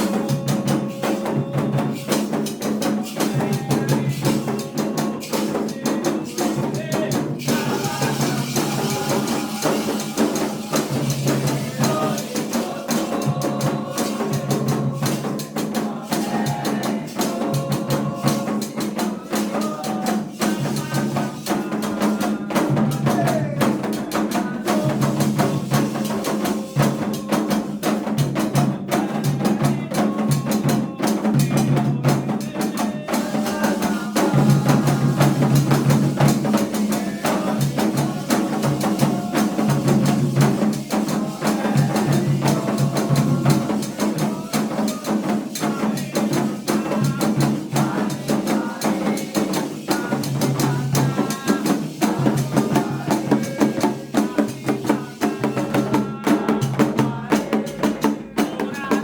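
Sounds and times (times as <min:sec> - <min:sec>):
hand drums: 0:00.0 - 0:59.0
voices singing: 0:00.0 - 0:59.0.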